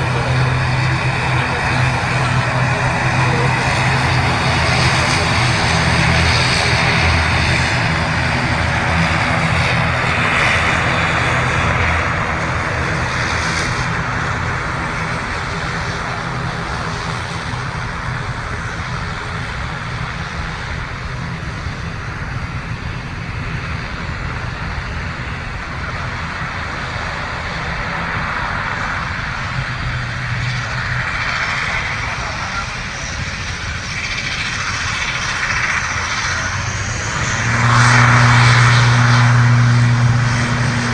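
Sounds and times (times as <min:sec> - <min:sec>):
airliner engines rushing: 0:00.0 - 0:40.9.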